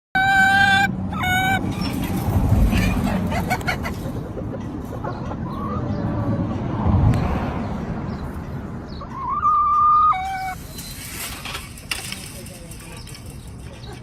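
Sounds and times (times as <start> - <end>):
chickens clucking: 0.2 - 6.8, 8.1 - 14.0.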